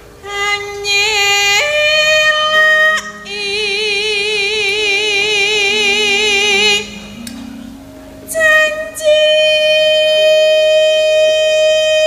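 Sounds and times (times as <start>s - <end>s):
woman singing long held notes: 0.2s - 12.0s.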